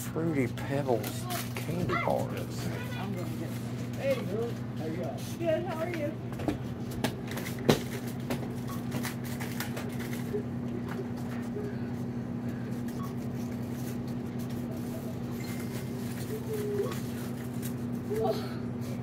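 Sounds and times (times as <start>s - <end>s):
low hum of shop background: 0.0s - 19.0s.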